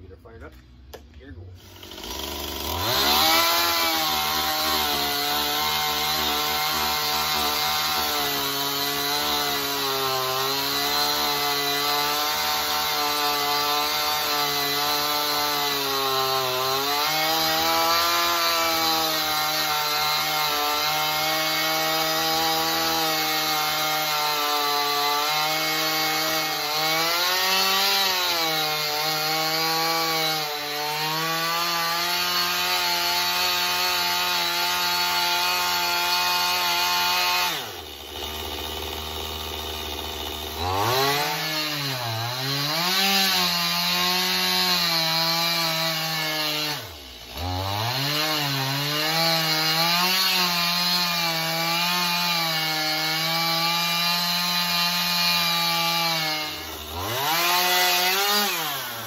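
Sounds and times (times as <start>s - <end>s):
chainsaw cutting wood: 1.6s - 59.0s.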